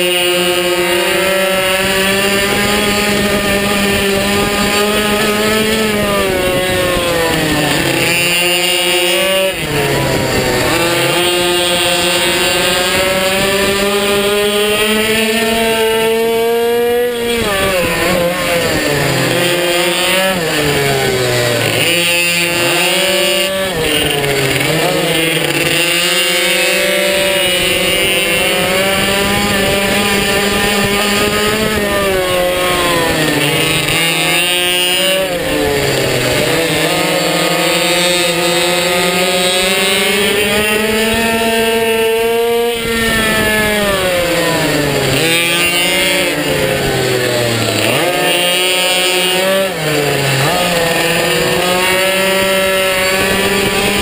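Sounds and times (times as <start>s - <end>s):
small engine at high revs: 0.0s - 54.0s.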